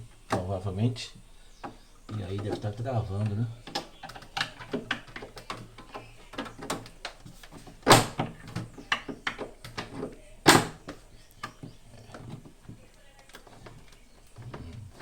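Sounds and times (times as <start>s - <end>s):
plastic panel knocking and clicking: 1.6s - 13.7s.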